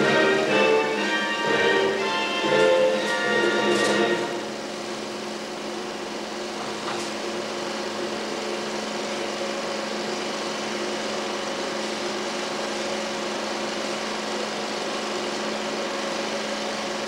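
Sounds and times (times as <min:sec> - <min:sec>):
mechanical hum and hiss: 0:00.0 - 0:17.0.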